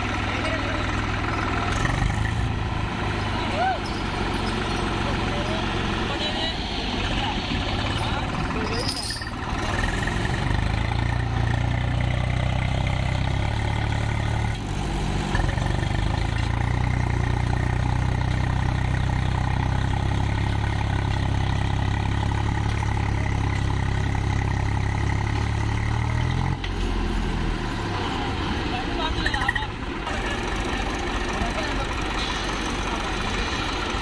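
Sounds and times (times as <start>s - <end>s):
tractor diesel engines running hard: 0.0s - 34.0s.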